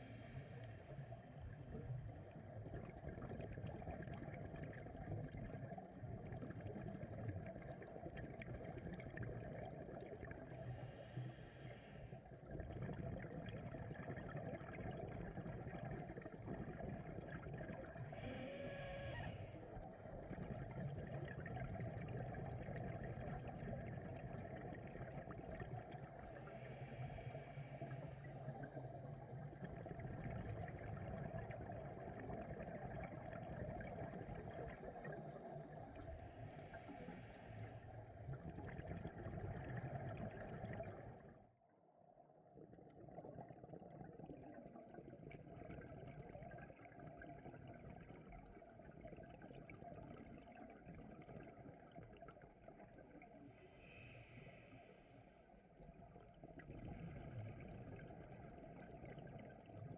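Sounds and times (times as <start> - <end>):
muffled water noise: 0.0 - 59.9.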